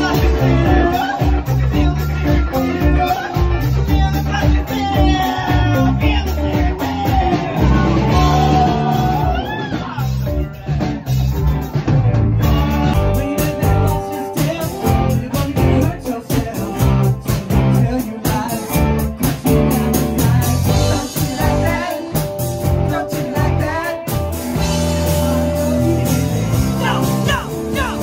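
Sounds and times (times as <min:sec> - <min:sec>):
person singing: 0:00.0 - 0:10.4, 0:12.5 - 0:28.0
drums: 0:00.0 - 0:28.0
guitar: 0:00.0 - 0:28.0.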